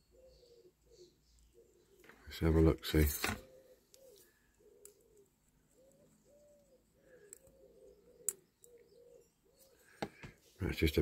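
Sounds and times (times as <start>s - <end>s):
bird cooing: 0.0s - 2.2s, 3.3s - 10.0s.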